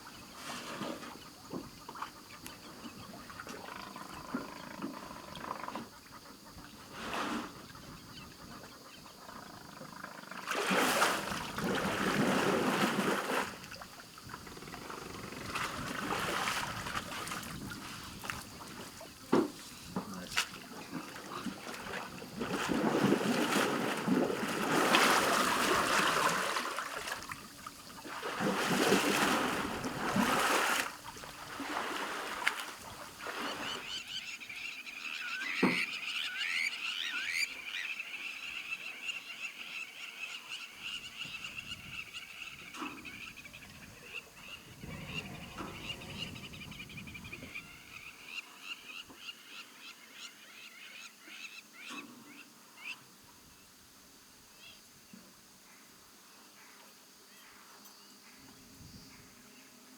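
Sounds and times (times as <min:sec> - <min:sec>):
frogs calling: 0:01.0 - 0:06.9, 0:07.6 - 0:53.1.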